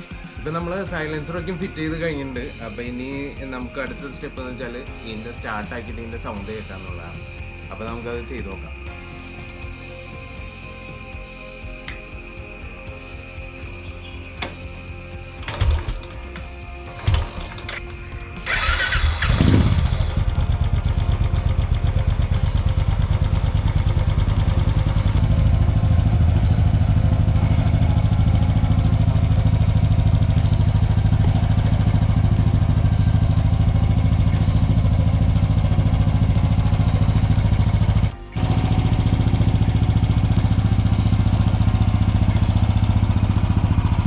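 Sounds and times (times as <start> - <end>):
electric starter cranking: 0.0 - 44.0
motorcycle engine idling: 0.0 - 44.0.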